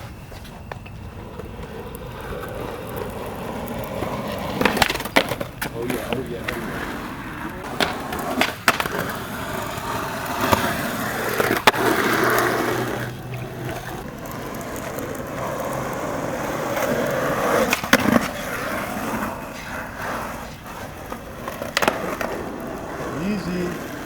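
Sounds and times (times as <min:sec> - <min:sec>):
skateboard clacks: 0:00.0 - 0:24.0
skateboard wheels rolling on pavement: 0:00.0 - 0:24.0.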